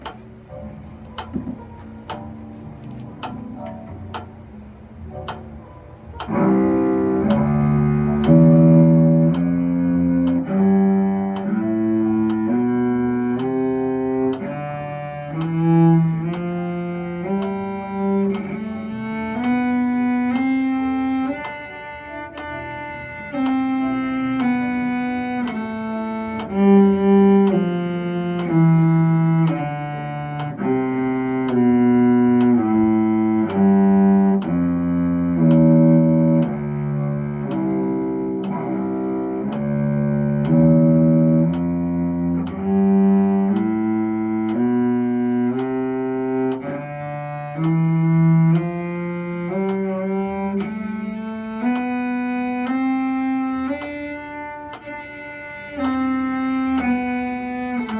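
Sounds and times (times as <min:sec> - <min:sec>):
bowed string instrument scales: 0:00.0 - 0:57.9.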